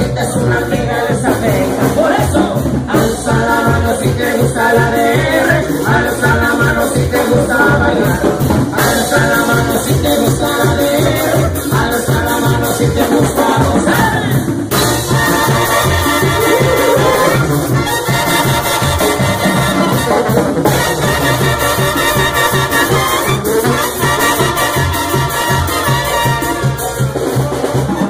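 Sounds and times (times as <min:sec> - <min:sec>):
brass band music: 0:00.0 - 0:28.0
driving percussion beat: 0:00.0 - 0:28.0.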